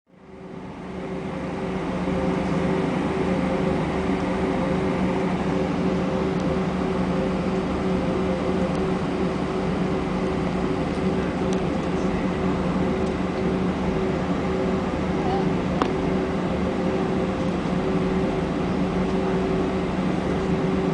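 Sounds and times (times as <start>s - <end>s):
airplane cabin drone: 0.1s - 20.9s.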